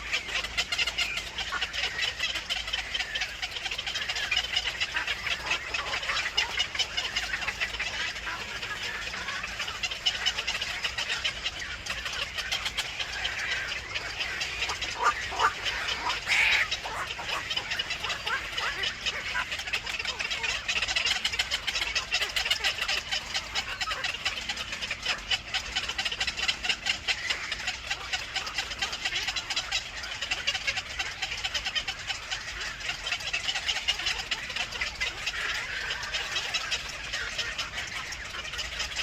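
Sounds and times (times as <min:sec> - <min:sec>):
birds chirping rapidly: 0:00.0 - 0:39.0
loud bird call: 0:00.0 - 0:39.0.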